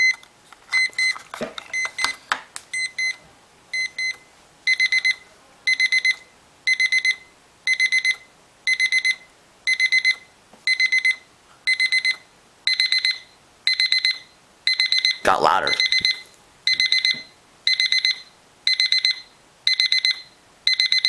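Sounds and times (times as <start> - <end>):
alarm clock beeping: 3.8 - 21.0.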